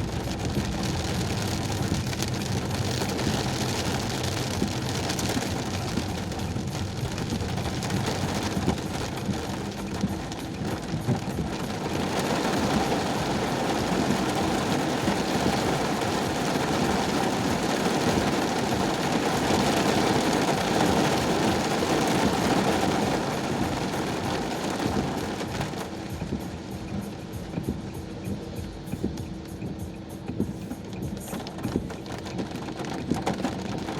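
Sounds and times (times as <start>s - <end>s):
low engine hum: 0.0s - 33.9s
rain and wet tyres hissing: 0.0s - 33.9s.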